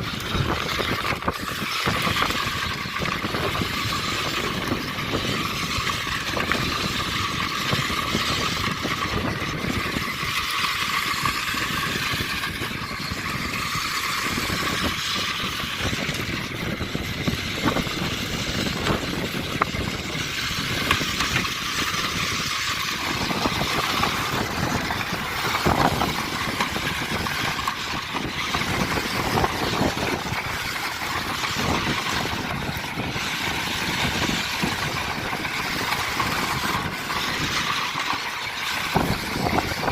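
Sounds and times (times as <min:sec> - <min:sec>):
toy truck motor and tyres: 0:00.0 - 0:39.9.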